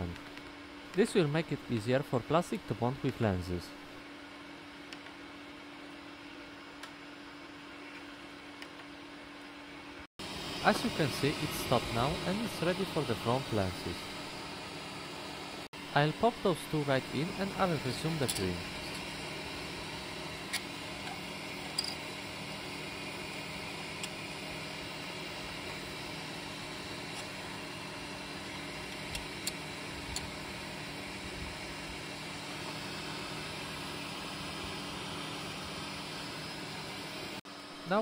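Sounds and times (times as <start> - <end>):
printer fans humming: 0.0 - 38.0.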